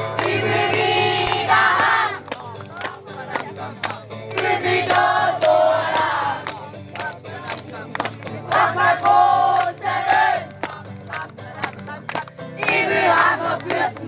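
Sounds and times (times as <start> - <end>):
group singing and shouting: 0.0 - 14.0.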